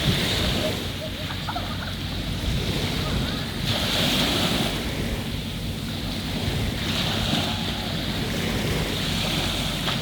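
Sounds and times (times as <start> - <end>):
waves washing onto beach: 0.0 - 10.0
wind buffeting microphone: 0.0 - 10.0.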